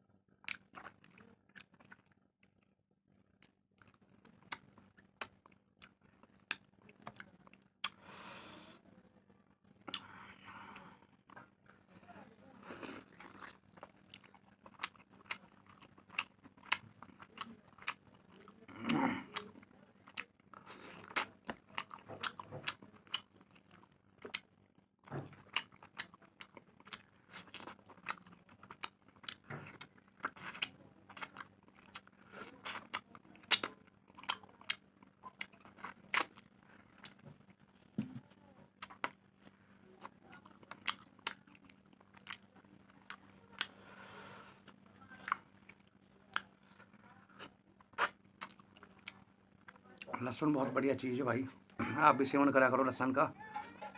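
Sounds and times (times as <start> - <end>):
person chewing and eating: 0.3 - 2.6, 3.3 - 8.4, 9.7 - 11.6, 12.6 - 50.2.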